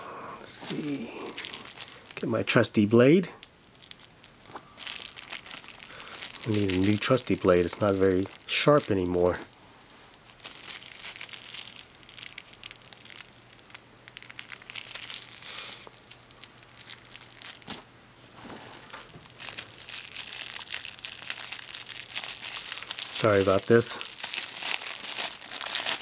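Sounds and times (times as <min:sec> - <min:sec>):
plastic wrapping crinkling: 0:00.6 - 0:26.0.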